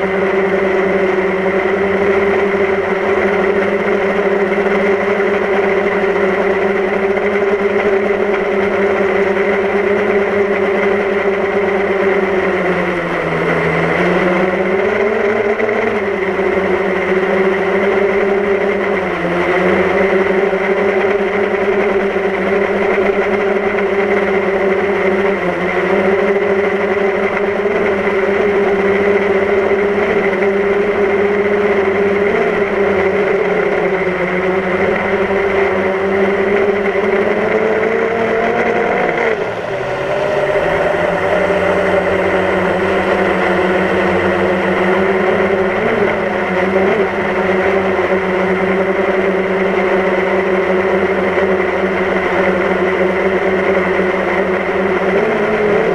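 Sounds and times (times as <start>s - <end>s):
drone propellers whining: 0.0s - 55.9s.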